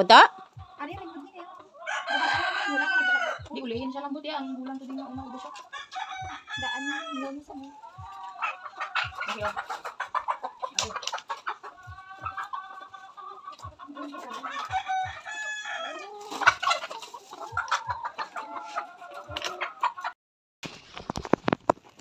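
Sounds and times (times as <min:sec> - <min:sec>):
chickens clucking: 0:00.0 - 0:20.2.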